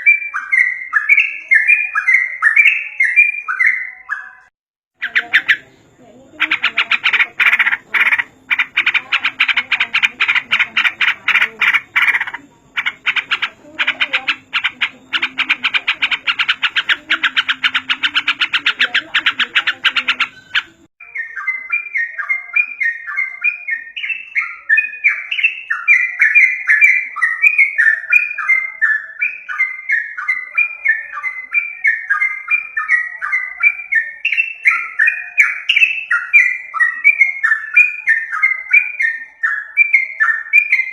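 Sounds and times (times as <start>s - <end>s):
bird bubbling song: 0.0s - 40.9s
bird harsh chattering: 5.0s - 40.9s.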